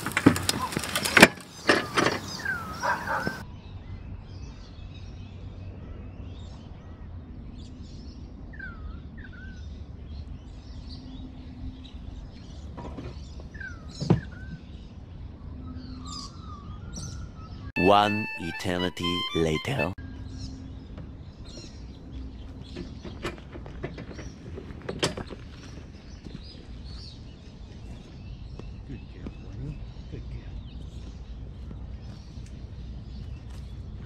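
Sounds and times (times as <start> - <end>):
birds chirping: 0.0 - 3.4, 7.6 - 34.0.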